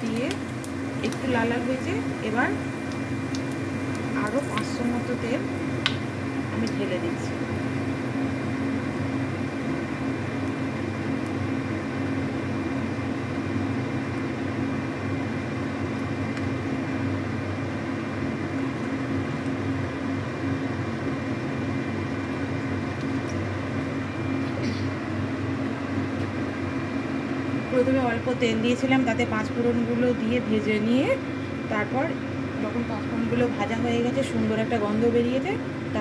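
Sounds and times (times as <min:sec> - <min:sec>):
low mechanical drone: 0:00.0 - 0:36.0.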